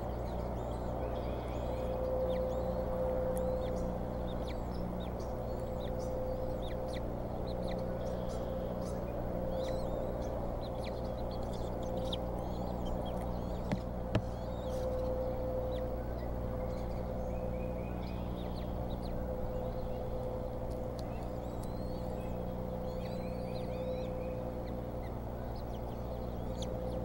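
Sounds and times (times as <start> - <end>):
bird chirps and calls: 0.0 - 27.0.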